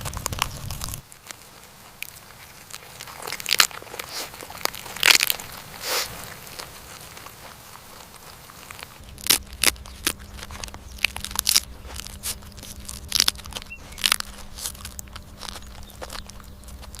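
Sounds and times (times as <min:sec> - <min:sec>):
faint low hum: 0:00.0 - 0:17.0
rabbit crunching cabbage: 0:00.0 - 0:17.0.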